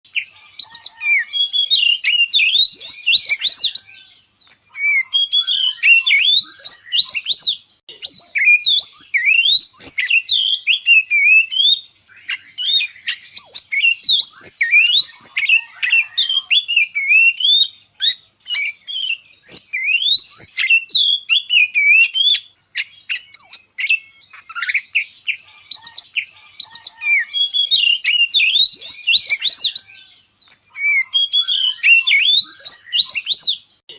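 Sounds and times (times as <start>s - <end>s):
small songbirds chirping: 0.0s - 33.9s.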